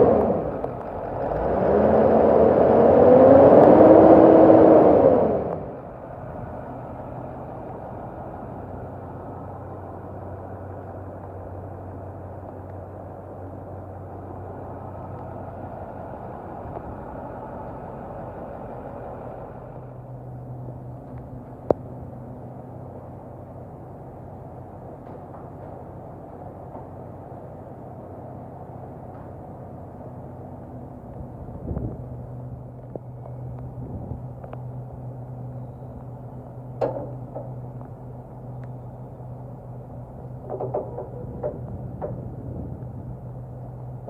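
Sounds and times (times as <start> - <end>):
truck engine idling: 5.1 - 44.0.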